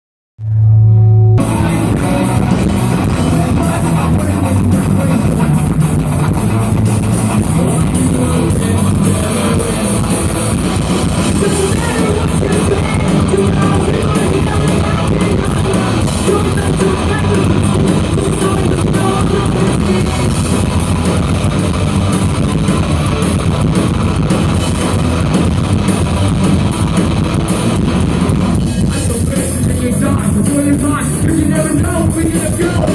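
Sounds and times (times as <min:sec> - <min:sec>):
live rock band playing: 0:00.4 - 0:32.9.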